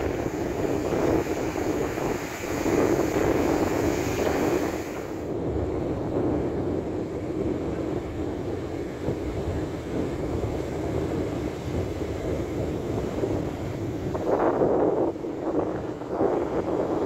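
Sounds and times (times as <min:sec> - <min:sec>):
sea surf breaking: 0:00.0 - 0:17.0
wind rumbling on microphone: 0:00.0 - 0:17.0.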